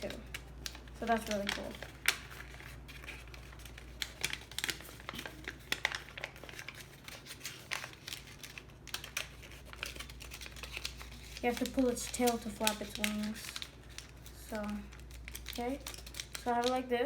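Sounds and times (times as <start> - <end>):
paper folding and rustling: 0.0 - 16.9.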